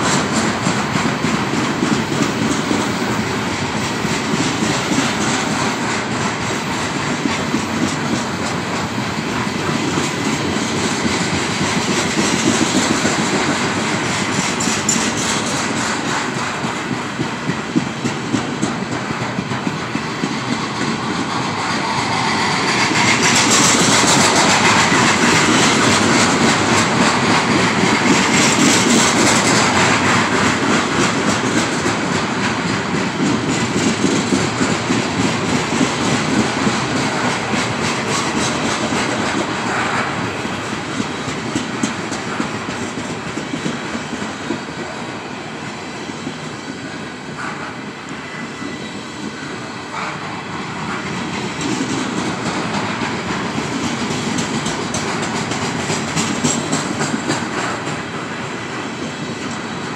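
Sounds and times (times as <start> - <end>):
wheels clicking over rail joints: 0.0 - 44.6, 49.9 - 58.8
train wheels rumbling on rails: 0.0 - 59.9.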